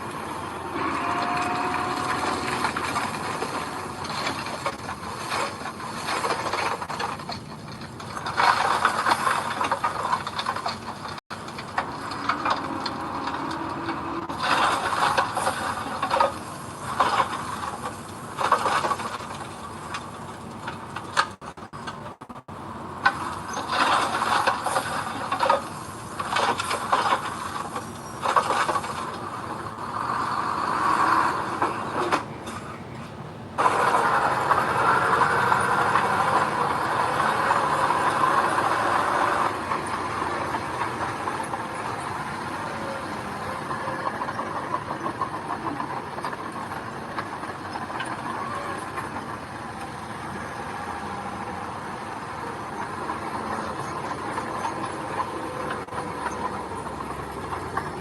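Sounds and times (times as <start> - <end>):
heavy machinery scraping gravel: 0.0 - 32.8, 33.6 - 58.0.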